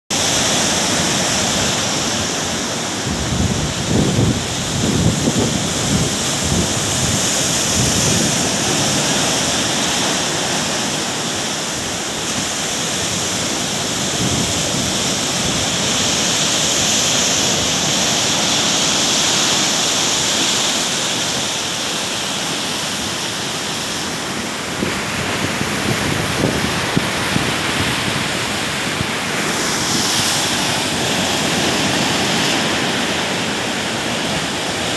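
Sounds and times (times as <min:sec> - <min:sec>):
surf crashing against seawall: 0:00.1 - 0:34.9
wind rumbling on microphone: 0:00.1 - 0:34.9.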